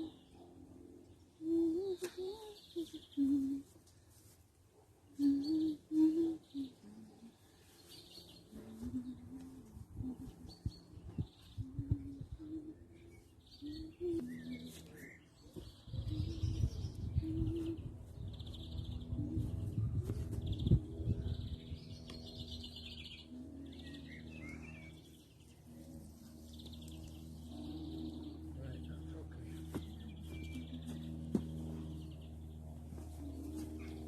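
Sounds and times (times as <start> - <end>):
small birds chirping: 0.0 - 4.4, 5.0 - 34.0.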